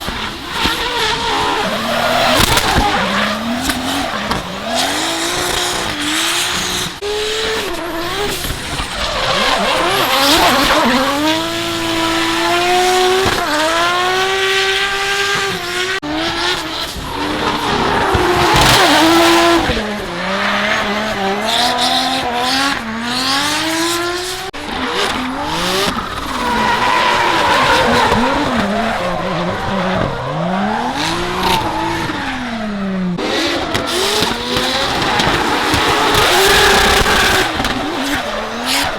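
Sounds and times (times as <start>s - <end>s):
car engines revving hard: 0.0s - 38.9s.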